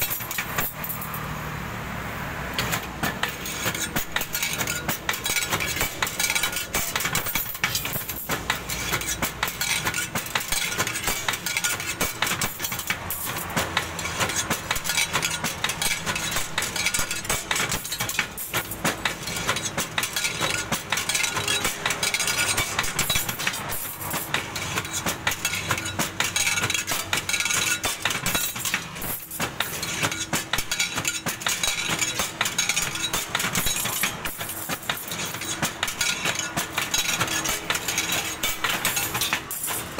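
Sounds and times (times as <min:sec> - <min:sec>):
metallic clinking and clatter: 0:00.0 - 0:01.3, 0:02.6 - 0:39.9.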